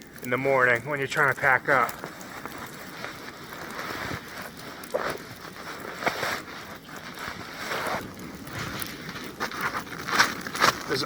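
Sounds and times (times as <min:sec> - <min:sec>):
rustles and crunches in snow: 0:00.2 - 0:11.0.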